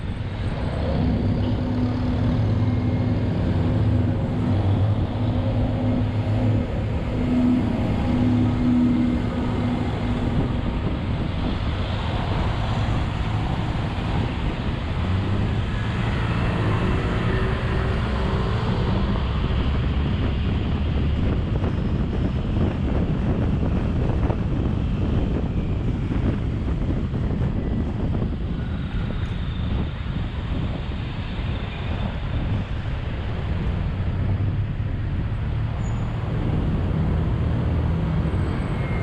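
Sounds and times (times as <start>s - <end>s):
road traffic engines rumbling: 0.0s - 39.0s
wind buffeting microphone: 0.0s - 39.0s.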